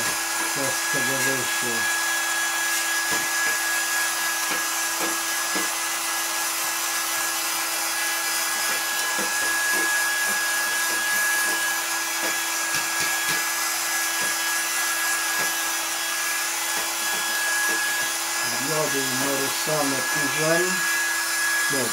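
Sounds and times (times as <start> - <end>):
electric brush whining: 0.0 - 21.9.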